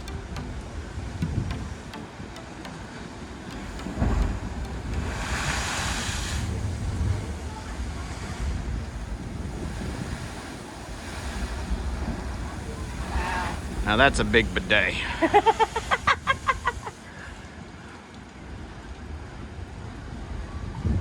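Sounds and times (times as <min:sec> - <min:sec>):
wind buffeting microphone: 0:00.0 - 0:02.5, 0:03.1 - 0:17.8
surf on a rocky shore: 0:00.0 - 0:21.0.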